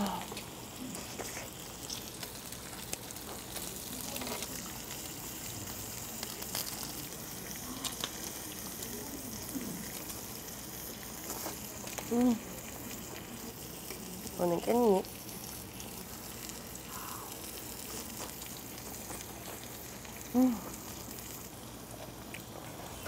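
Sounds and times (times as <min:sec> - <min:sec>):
meat sizzling on a grill plate: 0:00.0 - 0:23.0.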